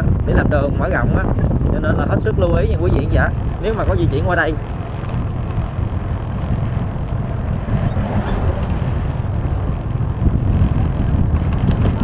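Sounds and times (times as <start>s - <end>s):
vehicle rumbling over gravel road: 1.3s - 12.0s.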